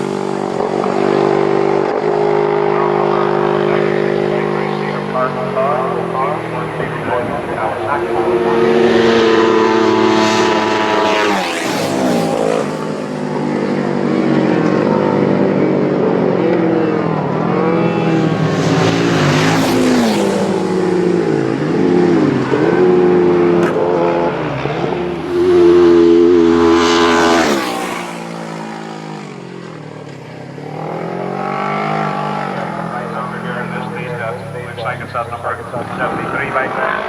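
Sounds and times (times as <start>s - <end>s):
racing motorcycles passing at speed: 0.0s - 37.0s.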